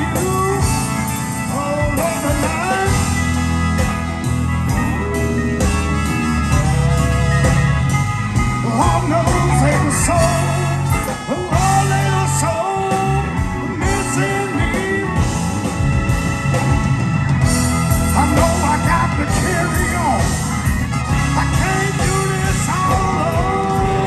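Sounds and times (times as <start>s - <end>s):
blues-rock band playing: 0.0s - 24.0s
electric guitar bending notes: 0.0s - 24.0s.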